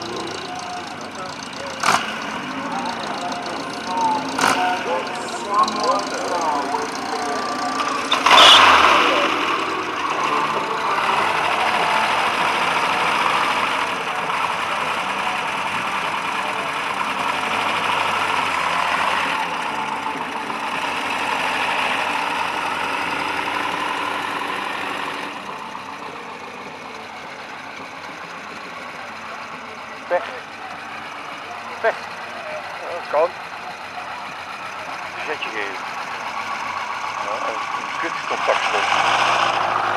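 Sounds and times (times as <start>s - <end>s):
motor trike engine running: 0.0s - 39.9s.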